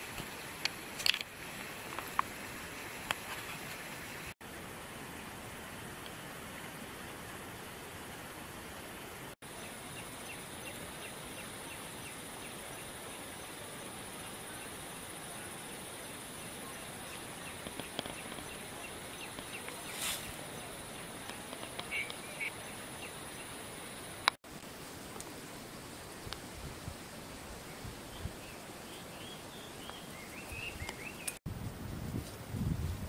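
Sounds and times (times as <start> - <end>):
insects droning: 0.0 - 31.4.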